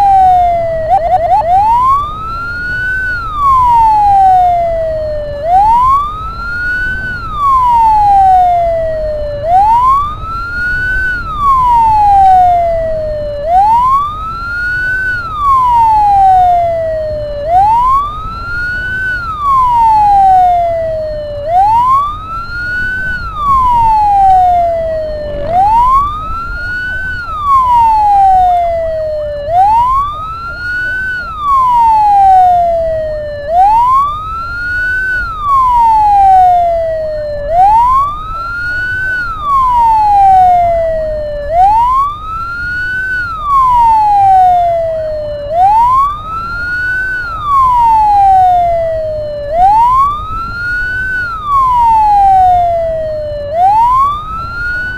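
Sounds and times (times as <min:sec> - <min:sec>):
ambulance siren wailing: 0:00.0 - 0:54.9
engine and road rumble: 0:00.0 - 0:54.9.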